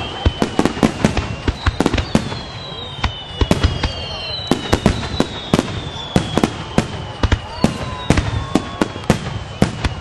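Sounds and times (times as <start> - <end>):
falling firework whistles: 0.0 - 10.0
fireworks bangs: 0.0 - 10.0.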